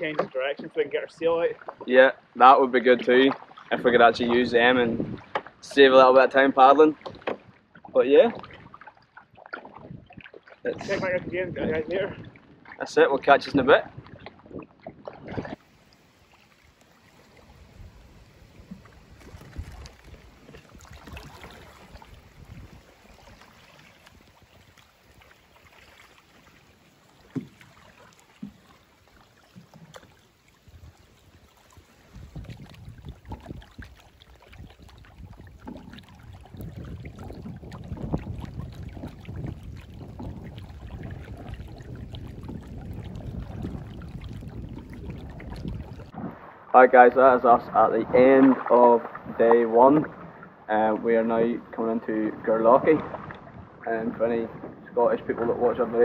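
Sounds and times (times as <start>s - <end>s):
canoe paddle strokes: 0.0s - 56.0s
water lapping at hull: 0.0s - 56.0s
wind rumbling on microphone: 3.0s - 26.0s, 29.6s - 56.0s.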